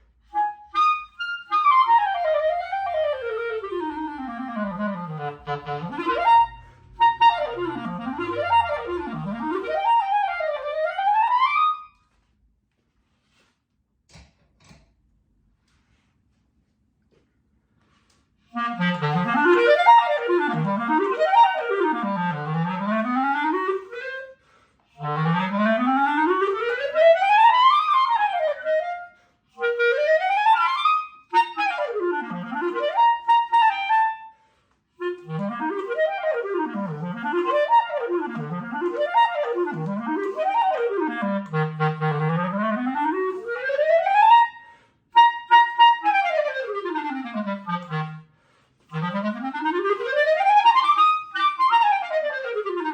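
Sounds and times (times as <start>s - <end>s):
clarinet playing fast runs: 0.3s - 12.0s, 18.5s - 24.4s, 25.0s - 34.3s, 35.0s - 44.6s, 45.2s - 48.3s, 48.9s - 52.9s.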